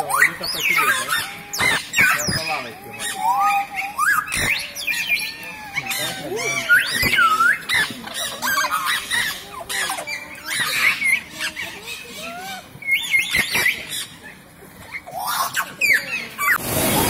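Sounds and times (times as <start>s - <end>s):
parakeets squawking: 0.0s - 17.0s.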